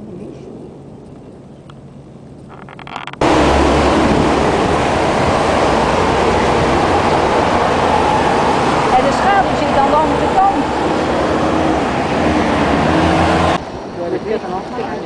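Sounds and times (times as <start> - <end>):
quiet outdoor ambience: 0.0 - 15.0
rush of wind: 0.0 - 15.0
traffic noise: 0.0 - 15.0.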